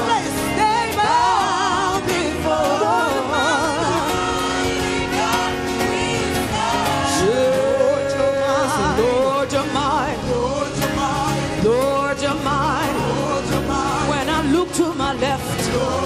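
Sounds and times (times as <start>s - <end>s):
gospel band playing: 0.0s - 16.0s.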